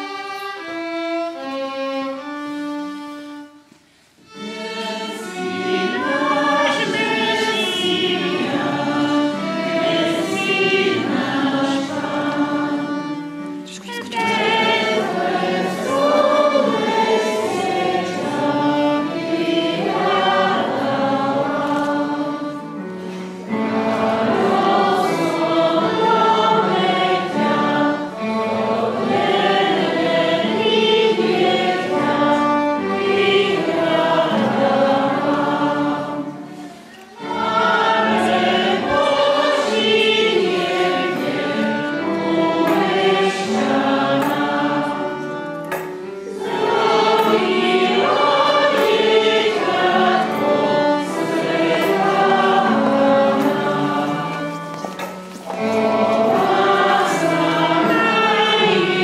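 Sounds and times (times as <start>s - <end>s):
choir singing a carol: 0.0s - 59.0s.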